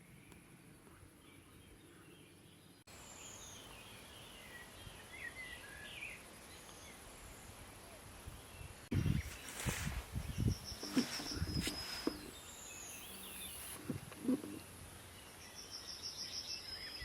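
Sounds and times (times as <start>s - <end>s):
small birds chirping: 0.0s - 17.0s
background hiss: 2.9s - 17.0s.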